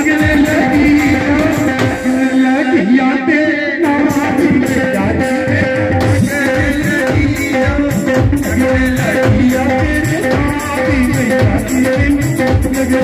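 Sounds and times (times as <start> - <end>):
dhol drum strokes: 0.0 - 13.0
keyboard melody: 0.0 - 13.0
man singing: 0.0 - 13.0.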